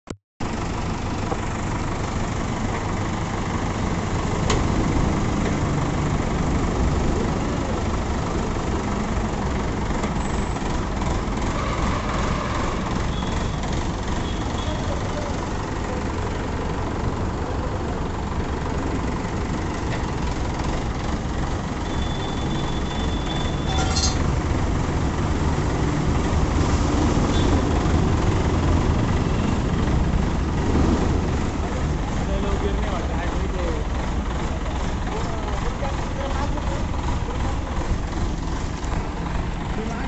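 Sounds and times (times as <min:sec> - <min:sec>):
forklift engine running: 0:00.4 - 0:40.0.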